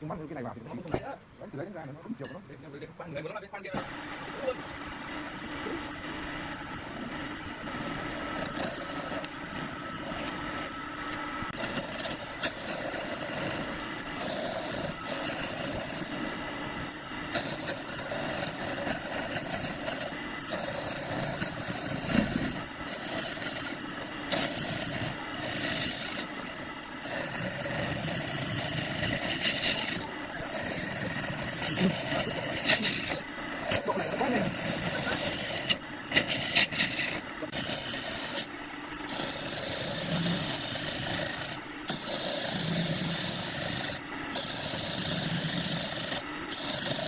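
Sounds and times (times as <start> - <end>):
wood lathe running: 3.8 - 47.0
tool scraping spinning wood: 6.4 - 47.0.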